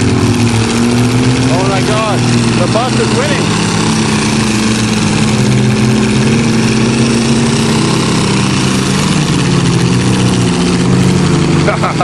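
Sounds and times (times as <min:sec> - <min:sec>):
engines running under full load: 0:00.0 - 0:12.0
tires spinning in dirt: 0:00.0 - 0:12.0.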